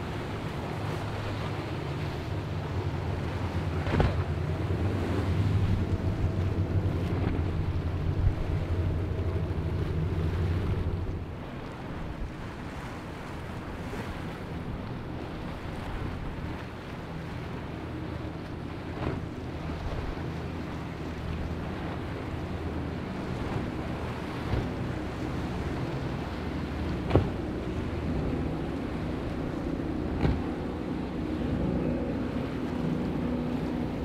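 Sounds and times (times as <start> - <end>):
powerboat engines: 0.0 - 34.0
wave wash: 0.0 - 34.0
wind buffeting the microphone: 0.0 - 34.0.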